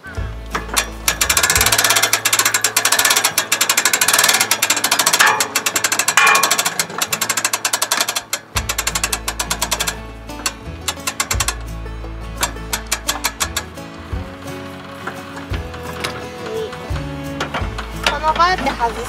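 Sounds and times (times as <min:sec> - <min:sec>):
trailer jack mechanical clicks: 0:00.0 - 0:19.0.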